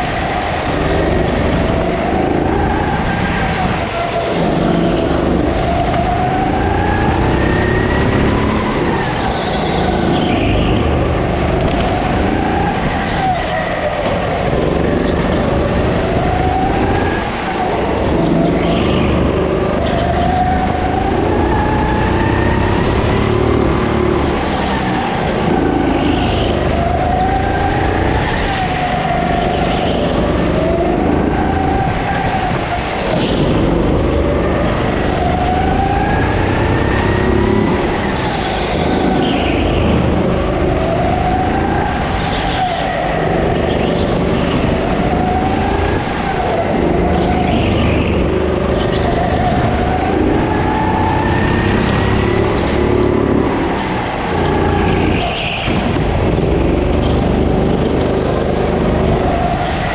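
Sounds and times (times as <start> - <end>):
go-kart motor revving: 0.0 - 59.9.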